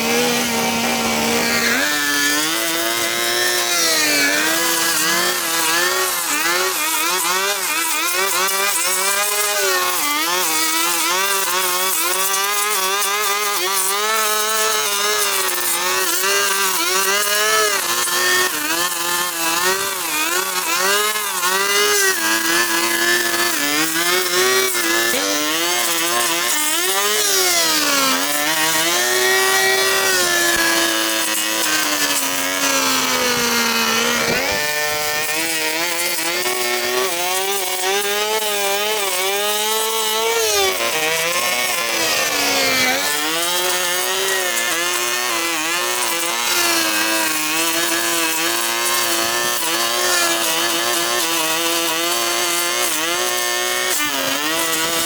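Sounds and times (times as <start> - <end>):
small petrol engine running hard: 0.0 - 55.0.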